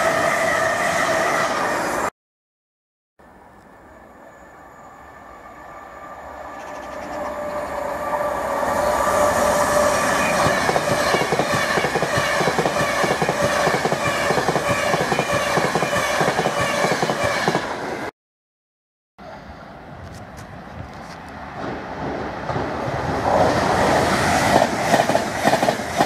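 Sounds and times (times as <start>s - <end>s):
electric train passing: 0.0s - 2.1s, 3.2s - 18.1s, 21.2s - 26.0s.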